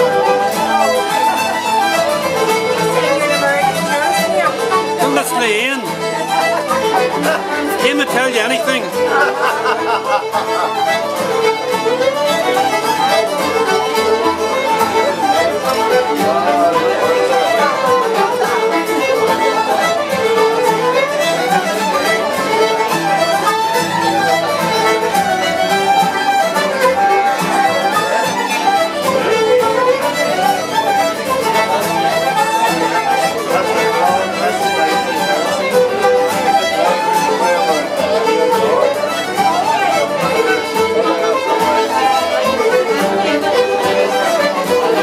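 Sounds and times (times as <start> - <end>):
fiddles playing lively tune: 0.0 - 45.0
strummed acoustic guitar: 0.0 - 45.0.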